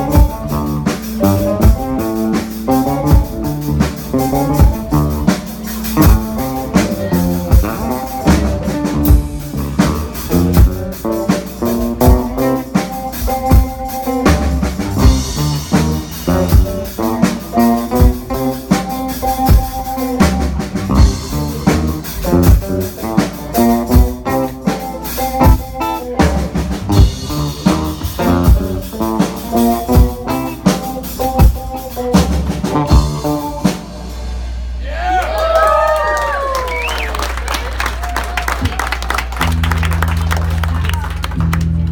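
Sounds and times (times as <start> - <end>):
drum kit beat: 0.0 - 41.9
rock band playing: 0.0 - 41.9.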